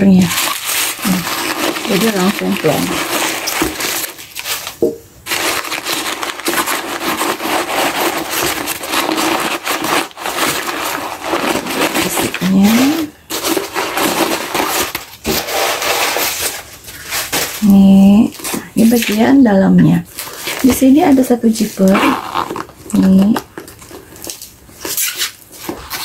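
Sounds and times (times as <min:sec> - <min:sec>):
tissue paper crumpling: 0:00.0 - 0:19.2, 0:20.0 - 0:26.0.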